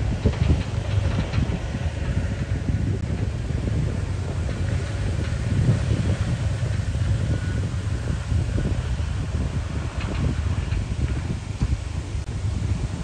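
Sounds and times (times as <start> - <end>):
engine and drivetrain rumble: 0.0 - 13.0.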